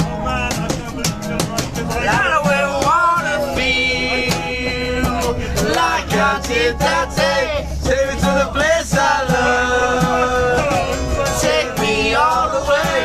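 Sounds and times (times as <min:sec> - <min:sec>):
man singing: 0:00.0 - 0:13.0
strummed acoustic guitar: 0:00.0 - 0:13.0
train rumble: 0:00.0 - 0:13.0.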